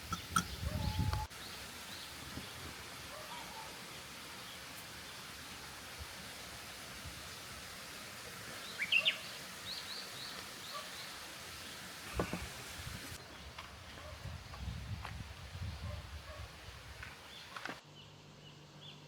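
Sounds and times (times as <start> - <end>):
songbirds chirping: 0.0 - 6.4, 7.2 - 19.0
steady outdoor hiss: 0.0 - 19.0.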